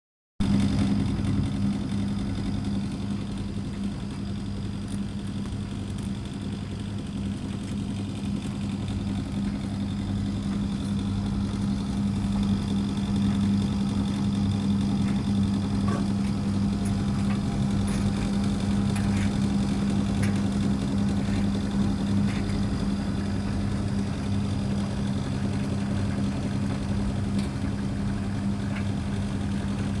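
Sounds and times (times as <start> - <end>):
tumble dryer hum: 0.4 - 30.0.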